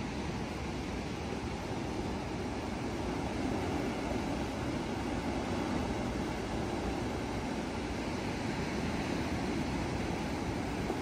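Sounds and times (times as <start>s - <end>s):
ocean surf over rocks: 0.0s - 11.0s.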